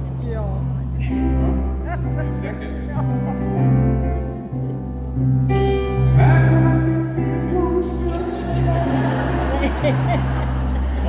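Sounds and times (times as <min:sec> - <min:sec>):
bass line: 0:00.0 - 0:11.0
gliding melody notes: 0:00.0 - 0:11.0
held chords: 0:00.0 - 0:11.0.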